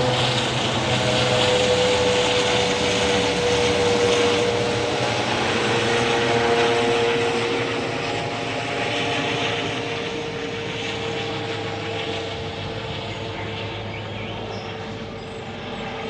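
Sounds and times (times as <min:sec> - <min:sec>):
helicopter engine running: 0:00.0 - 0:16.0.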